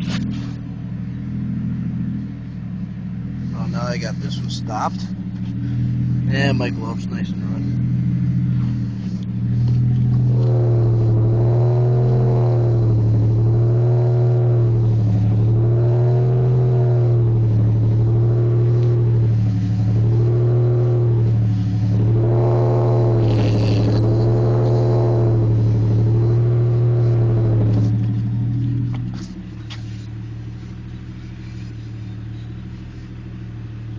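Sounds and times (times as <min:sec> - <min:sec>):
engine hum with warbling whine: 0:00.0 - 0:33.9.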